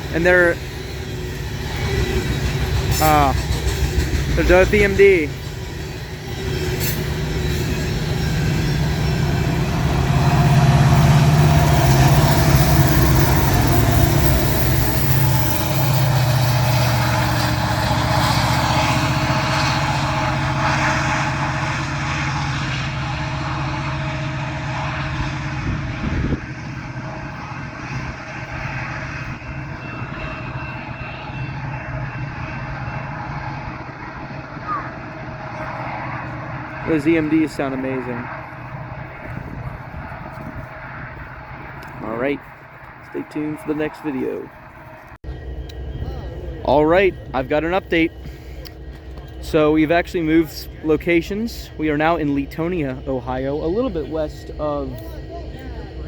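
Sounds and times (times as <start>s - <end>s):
diesel locomotive engines droning: 0.0s - 56.0s.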